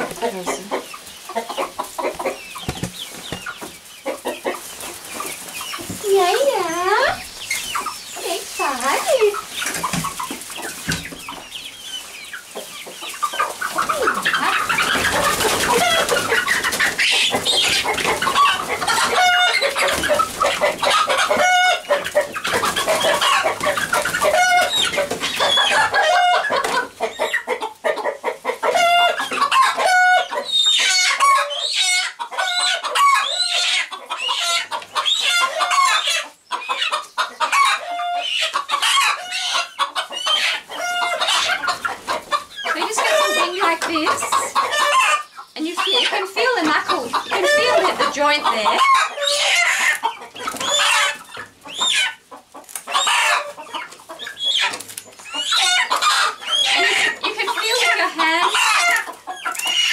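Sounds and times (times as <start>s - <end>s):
young chickens clucking and squawking: 0.0s - 59.9s.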